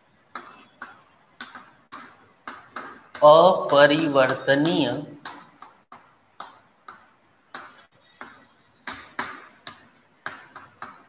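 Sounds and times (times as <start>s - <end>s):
chalk tapping on a blackboard: 0.3s - 11.0s.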